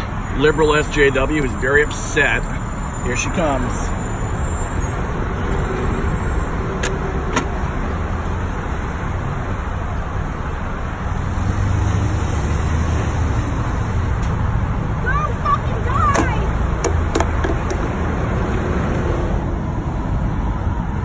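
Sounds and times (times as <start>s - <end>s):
road and tyre noise inside car: 0.0s - 21.0s.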